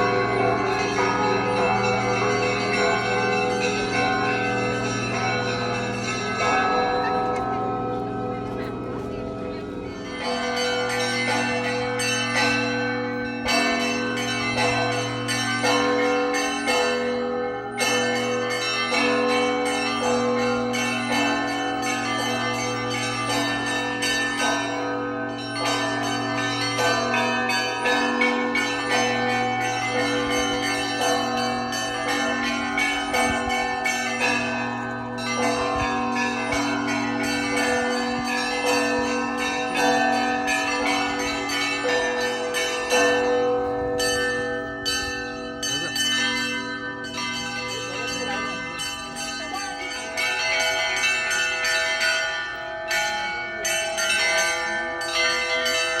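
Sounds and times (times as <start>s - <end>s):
large bell humming: 0.0s - 56.0s
small bells ringing in rhythm: 0.0s - 56.0s.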